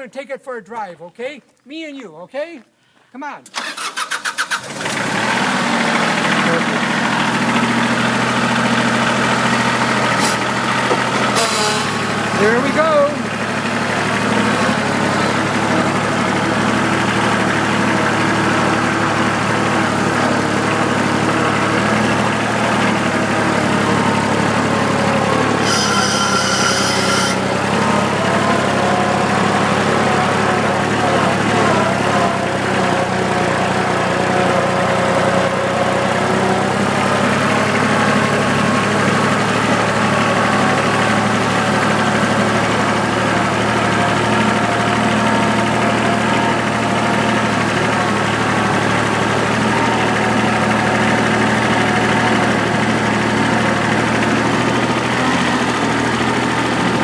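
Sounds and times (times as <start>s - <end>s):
tractor engine running: 3.4s - 57.0s.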